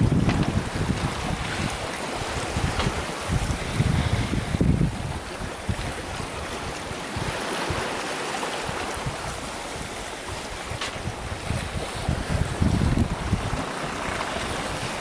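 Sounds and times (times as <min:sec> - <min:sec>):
water splashing along a hull: 0:00.0 - 0:15.0
wind buffeting the microphone: 0:00.0 - 0:15.0.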